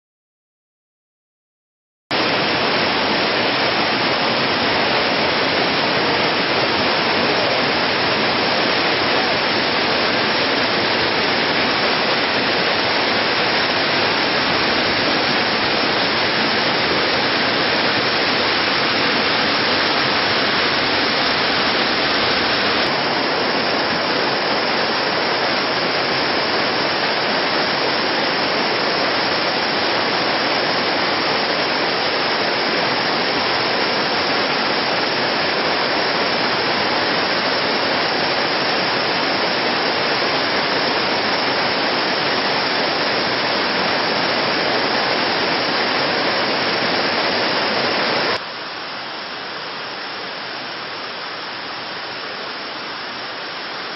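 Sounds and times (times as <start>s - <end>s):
waterfall rushing: 2.1s - 53.9s.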